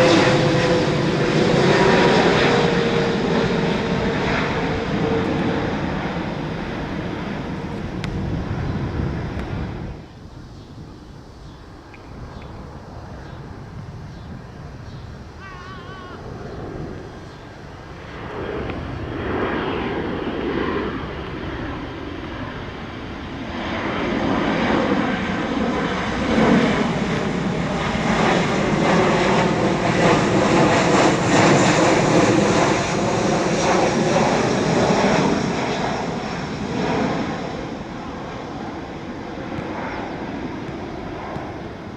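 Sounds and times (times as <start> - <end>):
jet airliner passing: 0.0 - 41.9.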